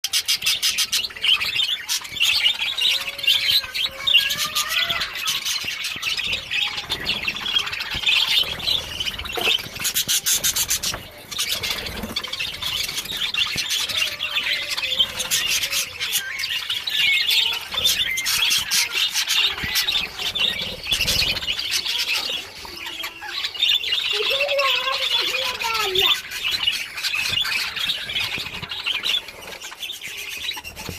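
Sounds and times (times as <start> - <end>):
flock of birds chattering: 0.0 - 30.9.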